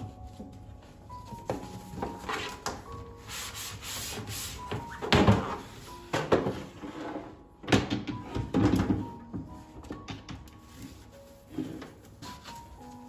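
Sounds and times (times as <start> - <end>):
rubbing and scrubbing: 0.0 - 7.4, 9.2 - 13.0.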